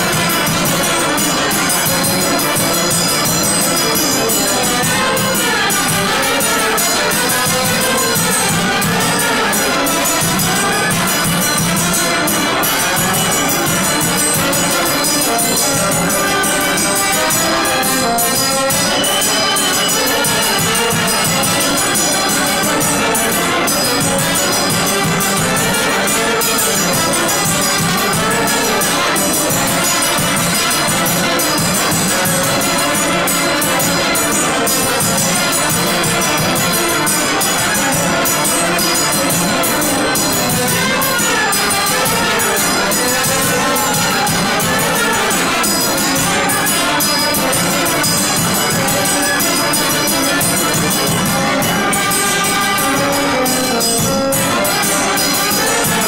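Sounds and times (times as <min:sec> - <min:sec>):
brass band playing folk dance: 0:00.0 - 0:56.0.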